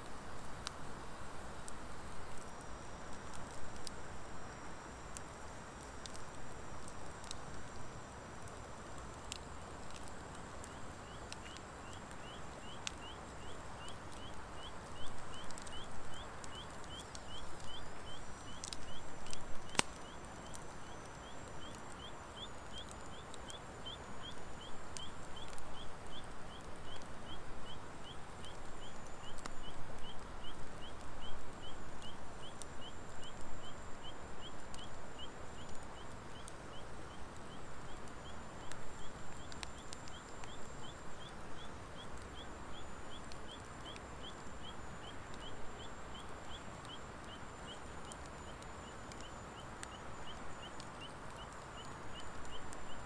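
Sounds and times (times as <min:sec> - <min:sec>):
wood fire crackling: 0:00.0 - 0:53.0
sharp pops from fire: 0:01.6 - 0:53.0.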